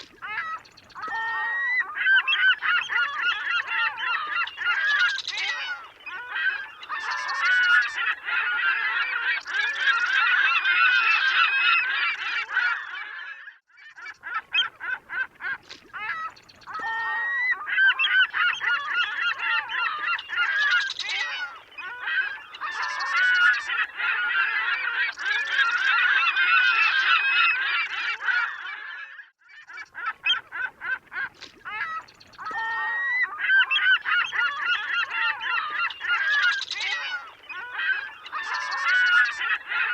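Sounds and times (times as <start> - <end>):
seagulls squawking: 0.0 - 13.4, 14.0 - 39.9.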